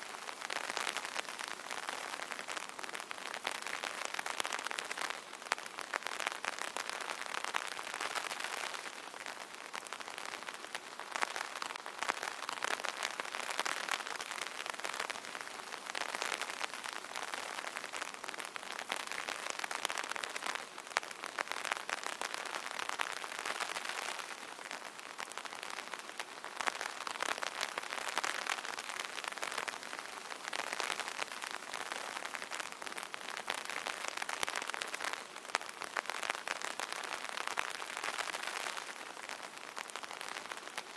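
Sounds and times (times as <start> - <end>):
light rain on an umbrella: 0.0 - 40.9.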